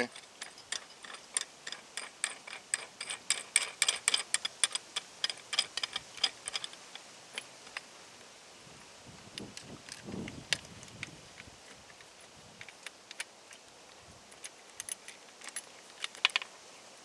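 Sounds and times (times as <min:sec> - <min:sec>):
small metal parts clicking: 0:00.0 - 0:07.9, 0:09.8 - 0:16.5.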